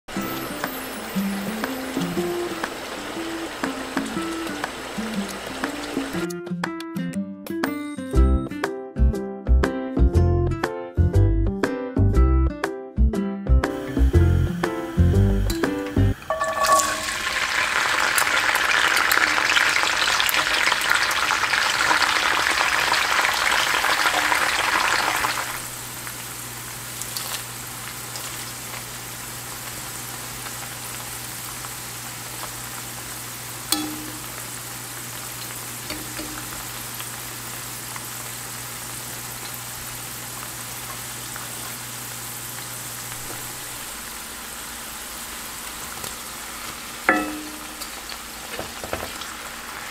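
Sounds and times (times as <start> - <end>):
garlic sizzling in oil: 0.1 - 6.3, 13.7 - 49.9.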